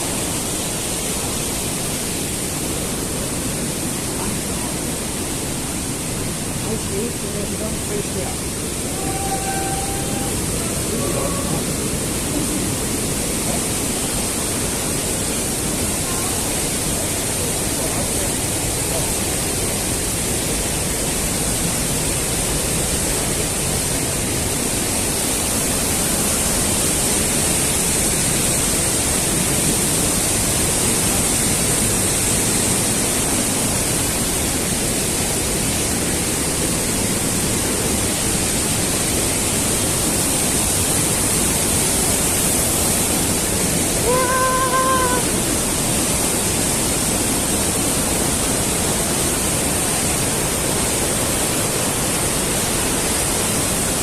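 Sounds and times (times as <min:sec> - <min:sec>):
roar of white water: 0:00.0 - 0:54.0.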